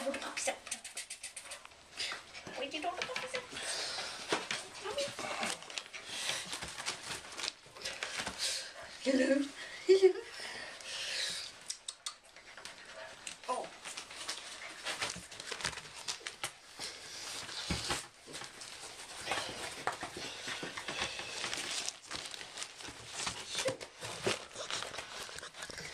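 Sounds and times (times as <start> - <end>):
puppy paws scuffing and clicking: 0.0 - 9.5, 10.6 - 25.9.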